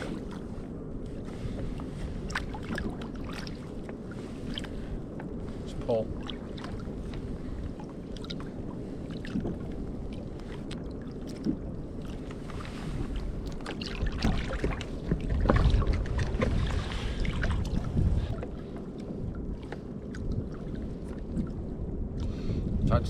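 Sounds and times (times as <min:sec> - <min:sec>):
water lapping against kayak hull: 0:00.0 - 0:22.8
wind on microphone: 0:00.0 - 0:23.0.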